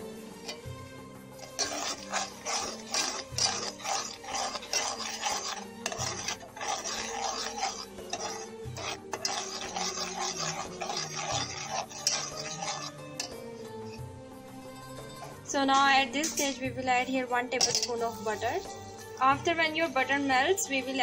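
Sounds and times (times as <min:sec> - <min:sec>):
metal spoon scraping saucepan: 0:00.0 - 0:19.6.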